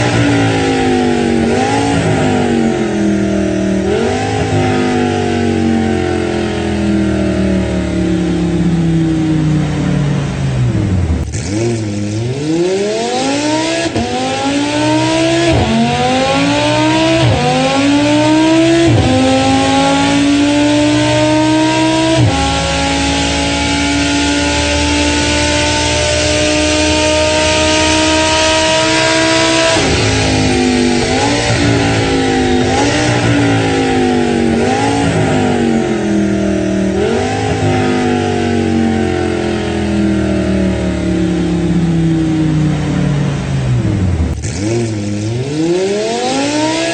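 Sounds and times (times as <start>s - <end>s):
racing car engine revving: 0.0s - 46.9s.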